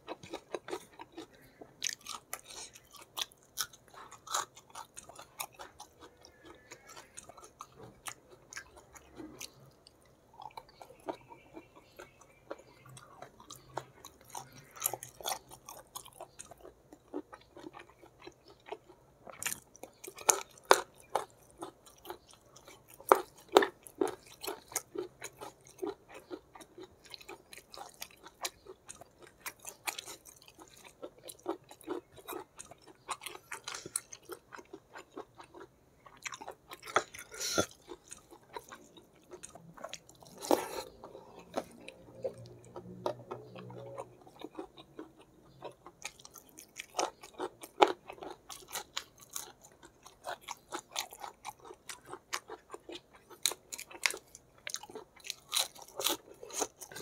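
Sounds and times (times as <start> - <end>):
chewing clicks and smacks: 0.0 - 57.0.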